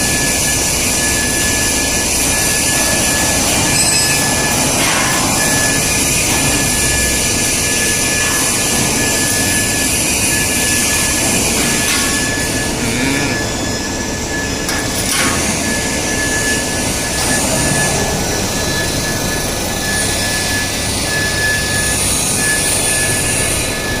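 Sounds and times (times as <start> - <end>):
high constant whine: 0.0 - 24.0
pipe swaging machine running: 0.0 - 24.0.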